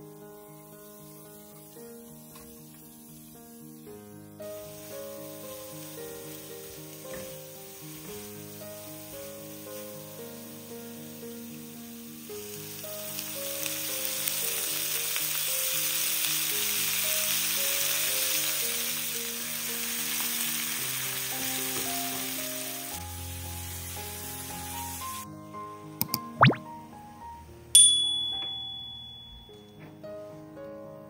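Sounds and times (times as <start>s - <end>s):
food sizzling in hot oil: 0.0s - 25.3s
gentle background melody: 0.0s - 28.4s, 29.3s - 31.0s.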